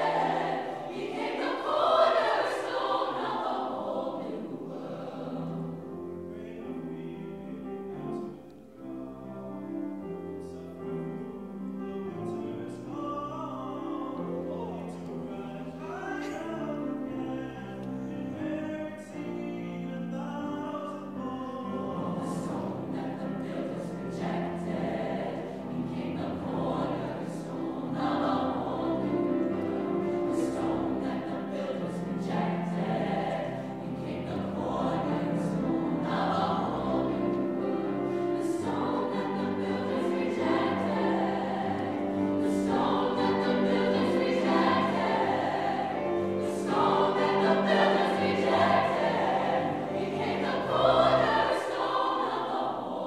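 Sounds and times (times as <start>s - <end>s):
choir singing: 0.0s - 53.0s
grand piano accompaniment: 0.0s - 53.0s.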